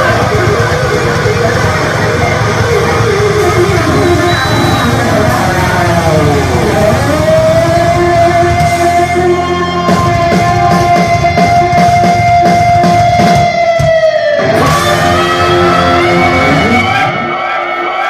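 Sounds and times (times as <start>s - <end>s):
distorted electric guitars: 0.0s - 18.0s.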